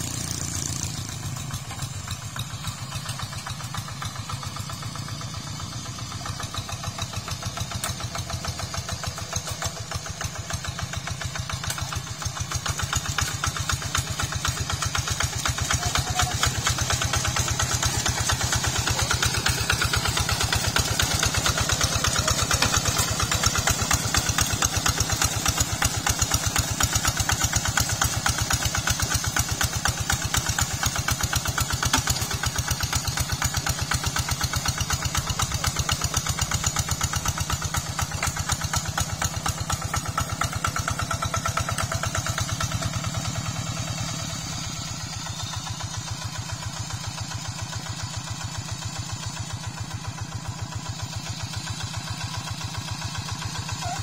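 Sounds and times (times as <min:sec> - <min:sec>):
diesel tractor engine chugging: 0:00.0 - 0:54.0.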